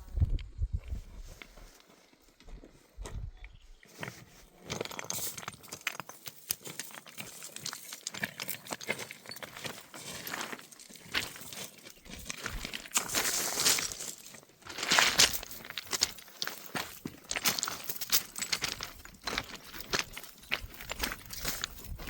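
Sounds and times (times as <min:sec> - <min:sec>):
rustling and crunching: 0:00.0 - 0:22.0.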